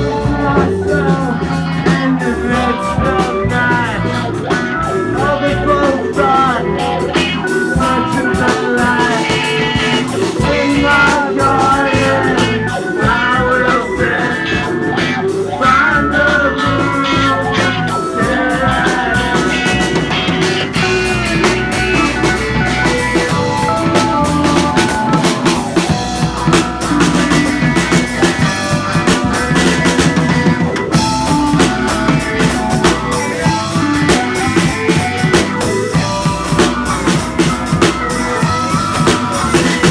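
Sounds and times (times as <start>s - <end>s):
drum kit: 0.0s - 39.9s
electric guitar bending in pitch: 0.0s - 39.9s.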